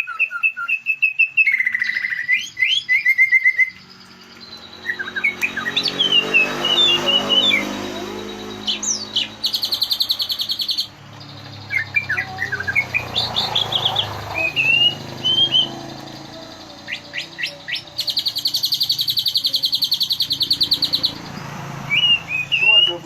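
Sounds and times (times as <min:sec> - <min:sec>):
bird song of chirps and whistles: 0:00.0 - 0:23.0
rapid buzzy bird trills: 0:00.0 - 0:23.0.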